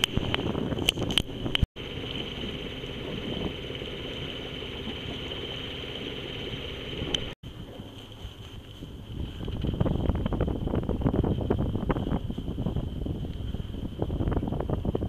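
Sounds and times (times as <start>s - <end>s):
steady rumble: 0.0s - 15.0s
wind and water noise: 0.0s - 15.0s.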